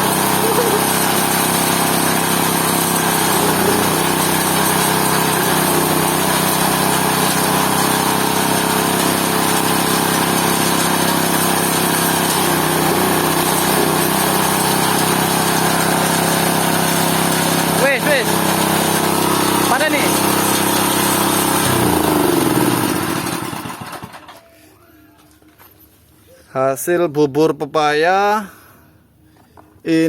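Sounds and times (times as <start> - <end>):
pulping machine humming: 0.0 - 24.9.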